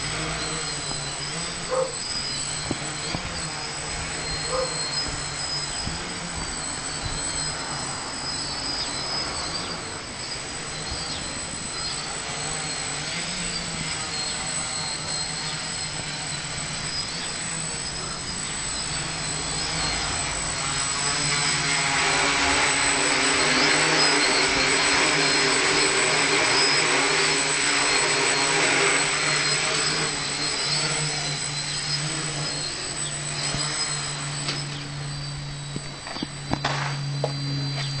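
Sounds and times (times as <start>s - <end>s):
quadcopter motors whining: 0.0s - 38.0s.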